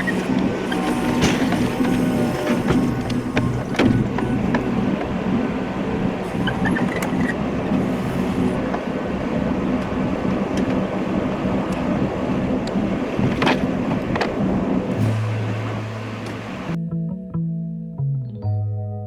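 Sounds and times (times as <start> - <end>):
engine running: 0.0 - 16.8.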